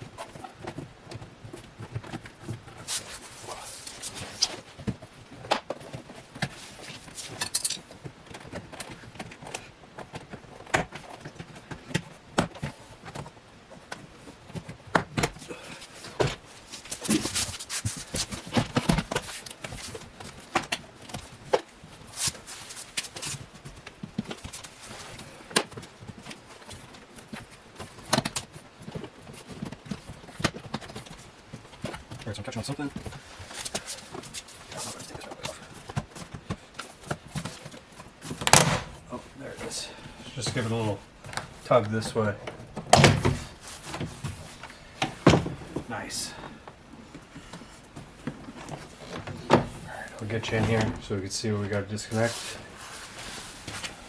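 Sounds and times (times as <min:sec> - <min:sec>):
plastic scraping and rattling: 0:00.0 - 0:51.1.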